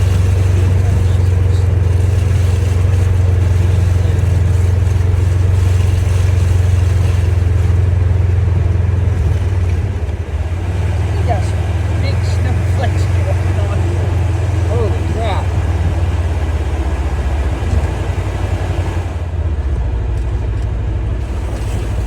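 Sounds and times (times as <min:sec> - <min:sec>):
engine running in enclosed cab: 0:00.0 - 0:22.0.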